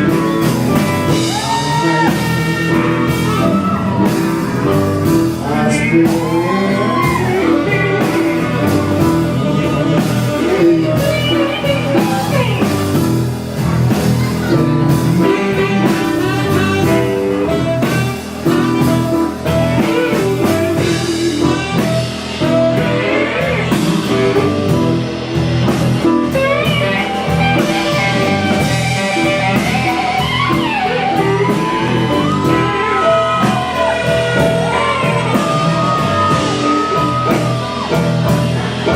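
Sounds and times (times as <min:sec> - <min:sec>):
loud rock music: 0:00.0 - 0:38.9.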